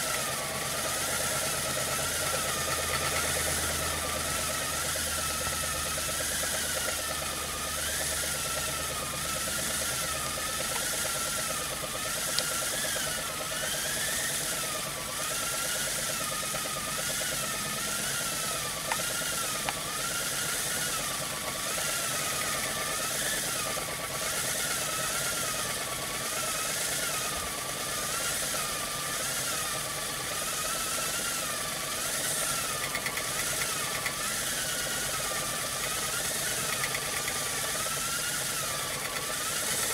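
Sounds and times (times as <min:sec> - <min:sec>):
steady mechanical buzz: 0:00.0 - 0:39.9
steam jets hissing and whistling: 0:00.0 - 0:39.9.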